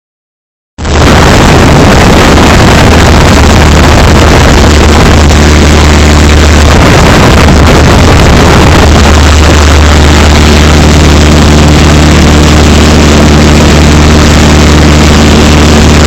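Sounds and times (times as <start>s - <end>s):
rushing air noise: 0.8s - 16.0s
small plane engine and propeller drone: 0.8s - 16.0s.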